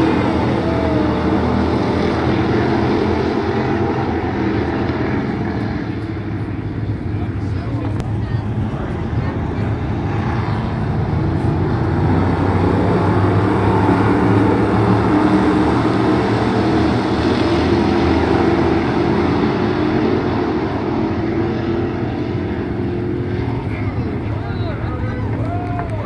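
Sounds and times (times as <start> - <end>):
stock car engines racing: 0.0 - 26.0.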